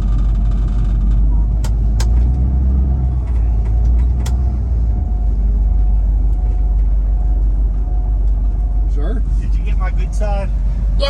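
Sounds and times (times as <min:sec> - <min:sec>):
car engine rumbling inside cabin: 0:00.0 - 0:11.0.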